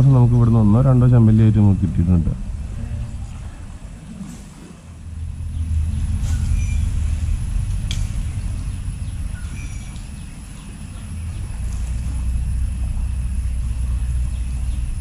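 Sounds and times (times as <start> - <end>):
low fluctuating microphone rumble: 0.0 - 15.0.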